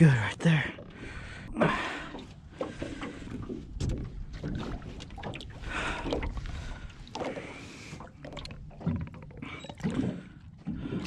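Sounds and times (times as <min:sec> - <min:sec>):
water splashing at boat side: 0:00.4 - 0:11.0.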